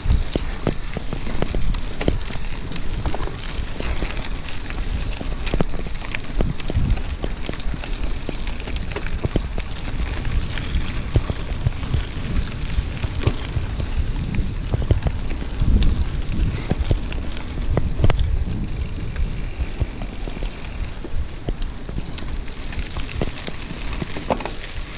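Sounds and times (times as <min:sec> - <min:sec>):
bicycle tyres crackling on track: 0:00.0 - 0:24.9
wind rumble on microphone: 0:00.0 - 0:24.9.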